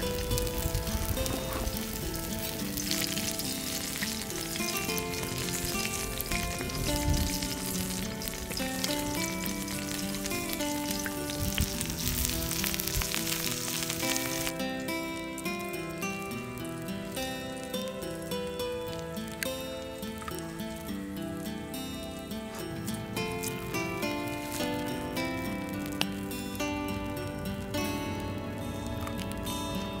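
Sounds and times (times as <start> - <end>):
background music with held notes: 0.0 - 30.0
food sizzling in oil: 0.0 - 30.0.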